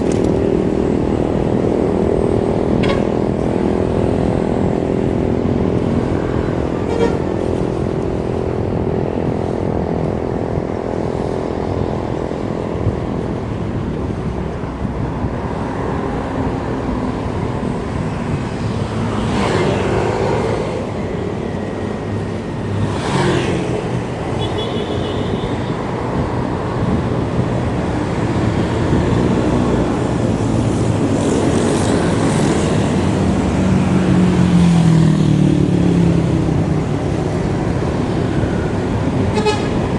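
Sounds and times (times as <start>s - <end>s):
traffic and road noise: 0.0s - 39.9s
vehicles passing close: 0.0s - 39.9s.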